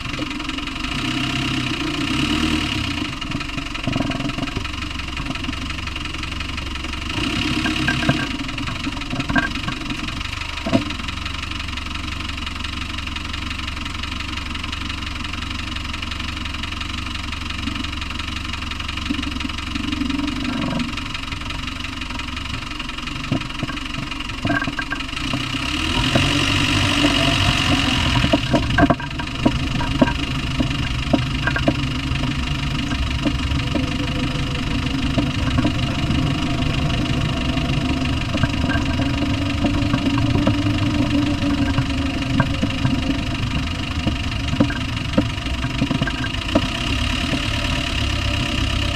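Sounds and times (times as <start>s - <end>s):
diesel engine running: 0.0s - 48.9s
engine knock: 0.0s - 48.9s.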